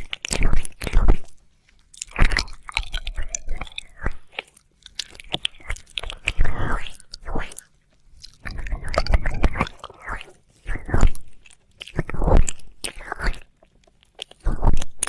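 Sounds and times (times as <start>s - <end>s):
wet mouth clicks and smacks: 0.0s - 15.0s.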